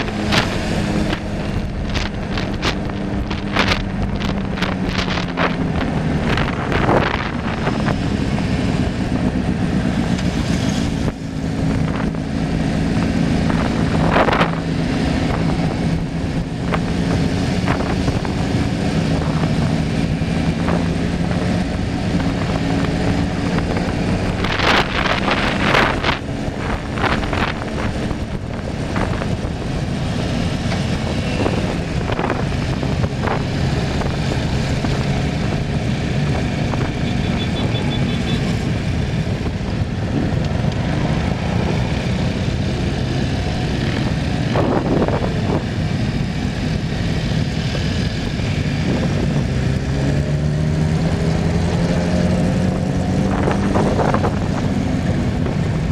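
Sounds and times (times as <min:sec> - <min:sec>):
vehicle hum: 0:00.0 - 0:55.9
wind on microphone: 0:00.0 - 0:55.9.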